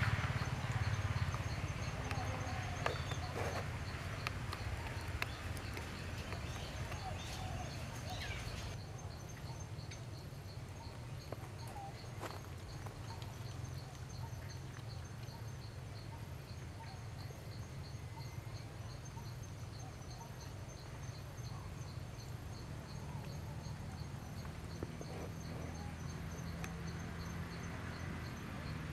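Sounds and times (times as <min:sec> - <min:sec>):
insects chirping: 0:00.0 - 0:28.9.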